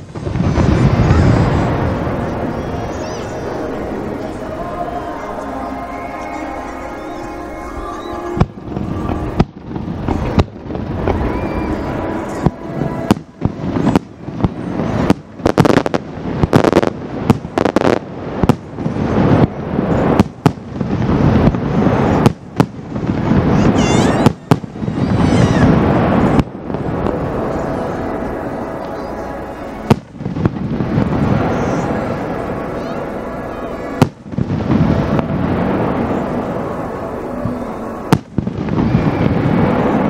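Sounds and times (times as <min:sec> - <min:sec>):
continuous rumble: 0:00.0 - 0:40.0
fireworks bangs: 0:00.0 - 0:40.0
fireworks whistles: 0:00.0 - 0:40.0.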